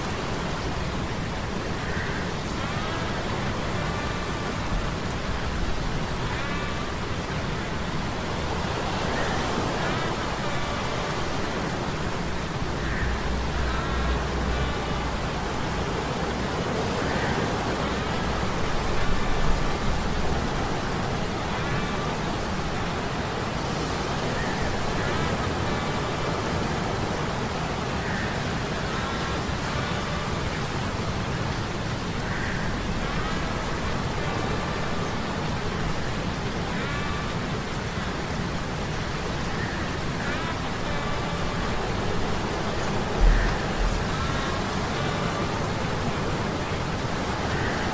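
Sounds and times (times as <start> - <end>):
steady rain: 0.0 - 47.9
surf noise: 0.0 - 47.9.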